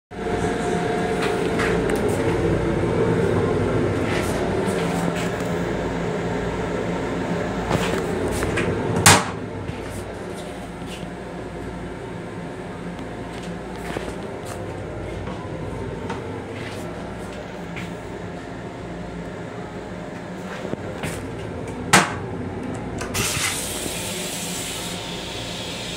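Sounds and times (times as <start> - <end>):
railcar hum and rumble: 0.1 - 25.9.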